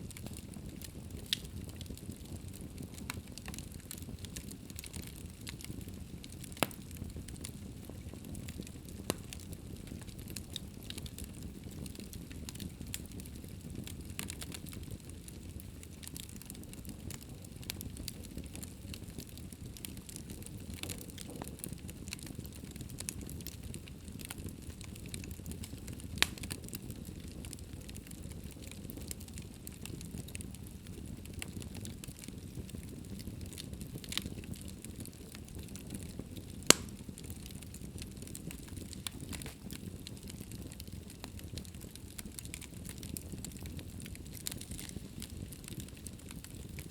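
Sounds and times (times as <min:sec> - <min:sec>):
wood fire burning: 0:00.0 - 0:46.9.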